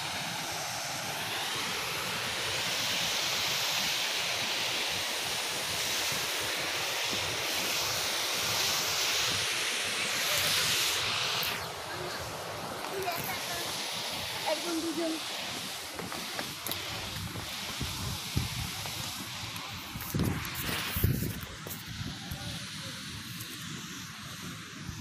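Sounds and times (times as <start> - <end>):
stream rushing over a weir: 0.0 - 25.0.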